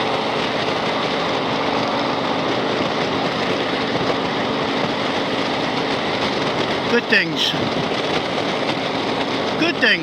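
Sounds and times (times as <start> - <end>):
road noise rushing: 0.0 - 10.0.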